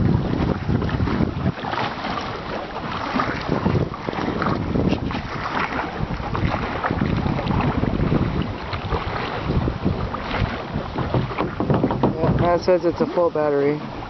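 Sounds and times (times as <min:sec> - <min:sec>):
choppy lake water: 0:00.0 - 0:14.0
wind buffeting microphone: 0:00.0 - 0:14.0.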